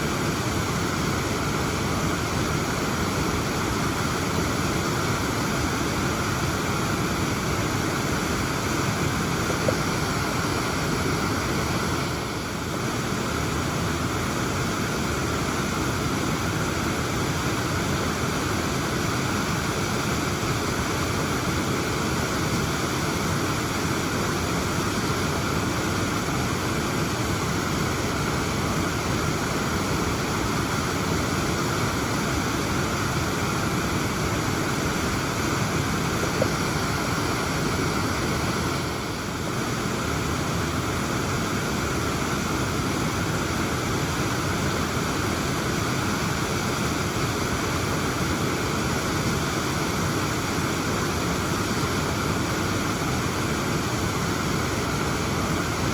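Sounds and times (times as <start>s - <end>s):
waterfall splashing: 0.0s - 55.9s.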